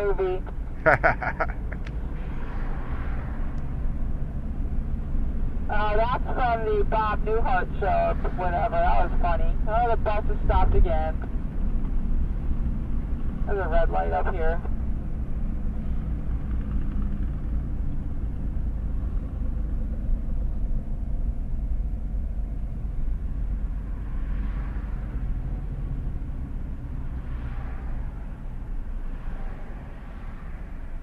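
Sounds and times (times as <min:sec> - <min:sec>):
vehicle engine rumble: 0:00.0 - 0:31.0.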